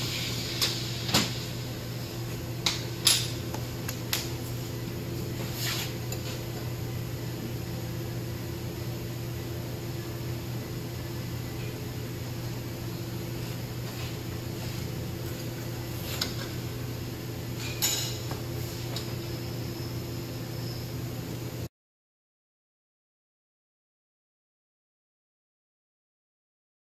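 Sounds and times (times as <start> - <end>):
steady machine hum: 0.0 - 21.7.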